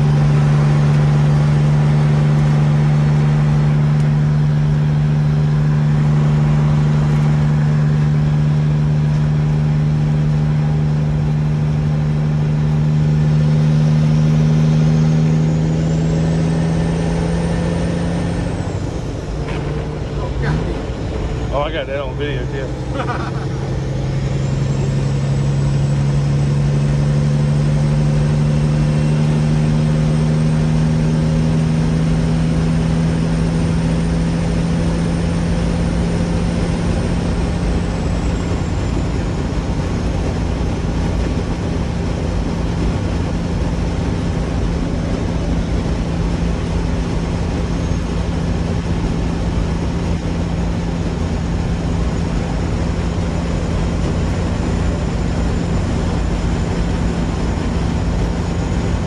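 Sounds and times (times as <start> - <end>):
road noise: 0.0 - 59.0
truck engine droning: 0.0 - 59.0.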